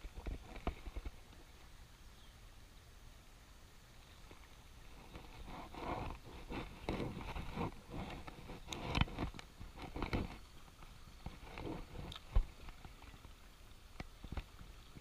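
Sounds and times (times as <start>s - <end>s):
rustling and scraping of fishing rod: 0.0s - 1.8s, 4.0s - 15.0s.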